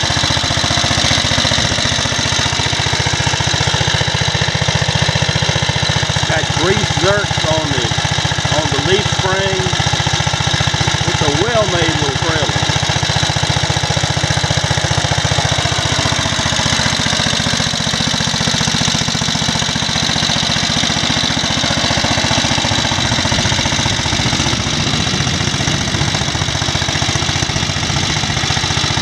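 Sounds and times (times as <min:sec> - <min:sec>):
single-cylinder engine running: 0:00.0 - 0:29.0.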